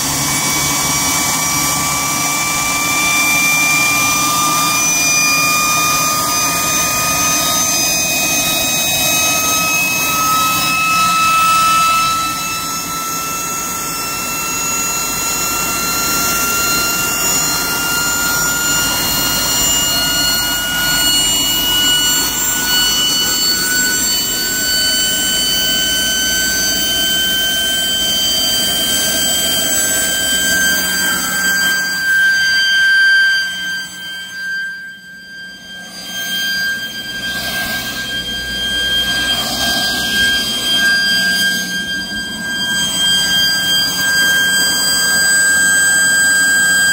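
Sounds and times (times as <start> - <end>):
turbine air rush and whine: 0.0 - 46.9.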